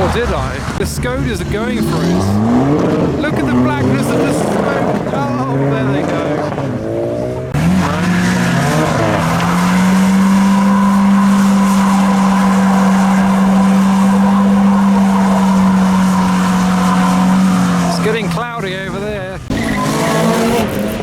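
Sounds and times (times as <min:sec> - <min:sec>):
car engine revving: 0:00.0 - 0:21.0
tyres squealing: 0:00.0 - 0:21.0.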